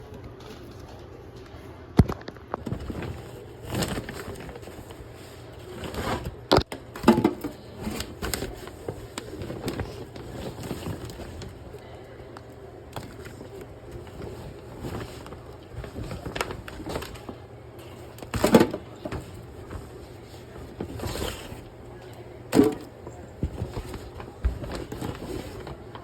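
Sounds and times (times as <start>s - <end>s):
handling knocks and rustling: 0.1s - 11.9s, 12.8s - 26.0s.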